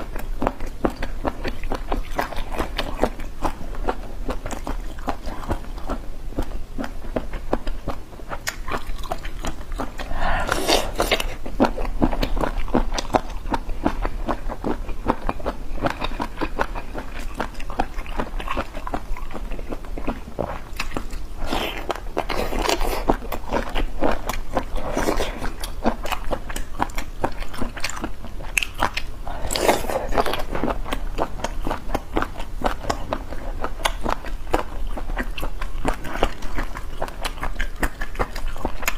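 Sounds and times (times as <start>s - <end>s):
bites and slurps: 0.0s - 38.9s
steady low hum: 0.0s - 38.9s
wet chewing clicks: 0.0s - 38.9s.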